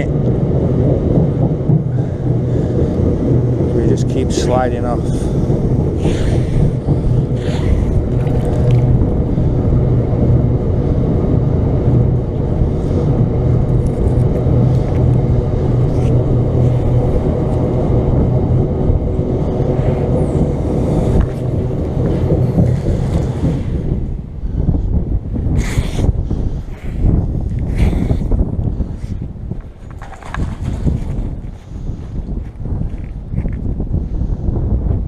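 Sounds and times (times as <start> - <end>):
road traffic rumble: 0.0 - 34.6
low hum: 0.0 - 35.0.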